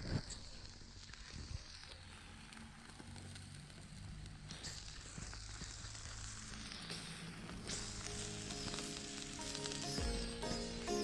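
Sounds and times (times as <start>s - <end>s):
low hiss: 0.0s - 11.0s
wood fire crackling: 0.0s - 11.0s.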